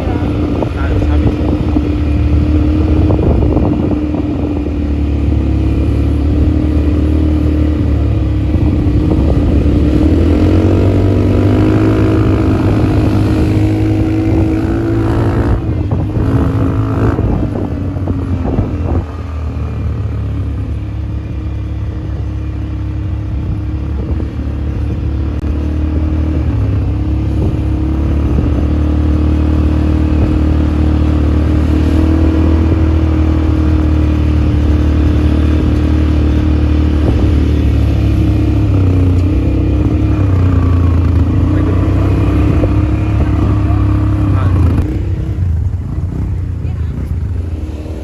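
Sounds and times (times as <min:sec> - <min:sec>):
atv engine running: 0:00.0 - 0:48.0.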